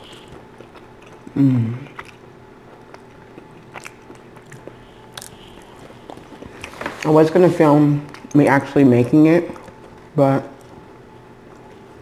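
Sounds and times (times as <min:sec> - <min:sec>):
crunchy bread chewing: 0:00.0 - 0:07.1, 0:09.4 - 0:12.0.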